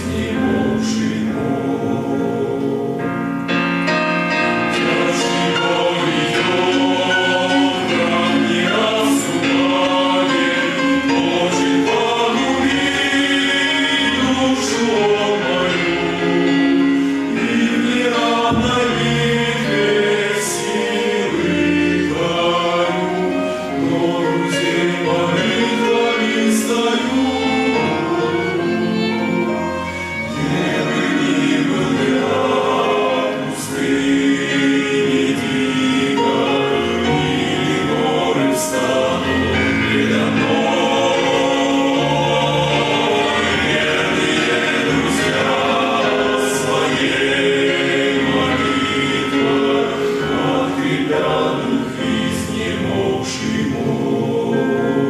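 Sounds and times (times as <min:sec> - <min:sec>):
men's choir singing a hymn: 0:00.0 - 0:55.0.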